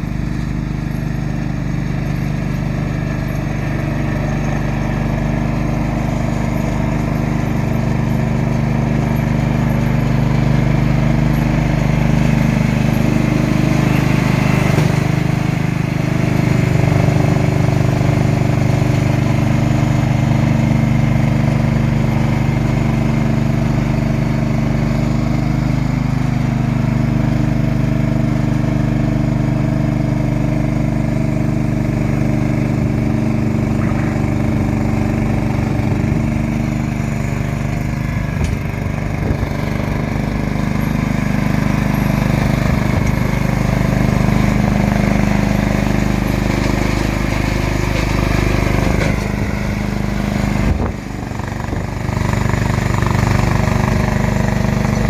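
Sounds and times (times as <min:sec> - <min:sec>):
snowblower engine running: 0:00.0 - 0:55.0.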